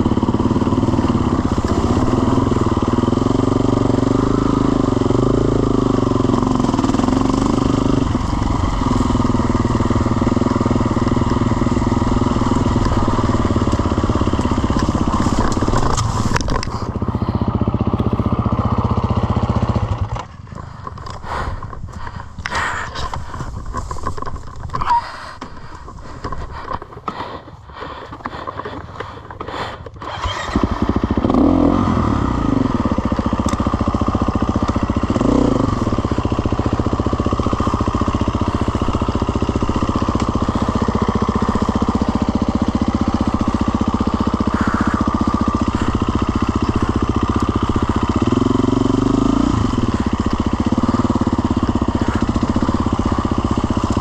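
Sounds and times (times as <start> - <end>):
small engine running and revving: 0.0 - 25.0, 30.0 - 54.0.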